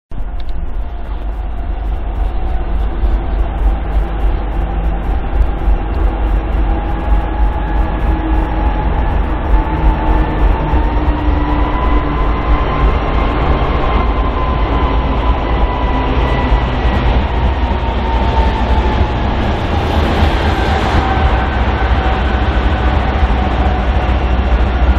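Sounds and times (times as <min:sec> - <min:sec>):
diesel locomotive engine rumble: 0:00.1 - 0:24.9
faint whine: 0:00.1 - 0:24.9.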